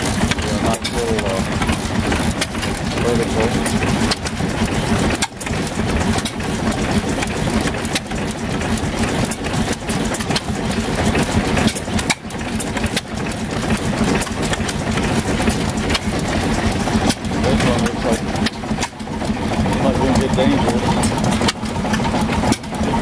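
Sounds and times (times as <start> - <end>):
gas engines chugging: 0.0 - 23.0.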